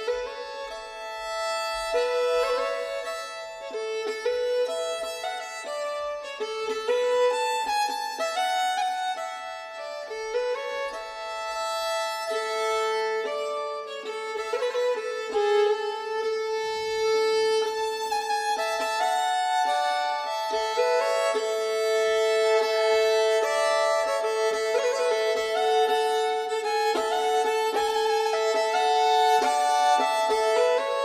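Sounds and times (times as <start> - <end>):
violin playing slow melody: 0.0 - 31.0.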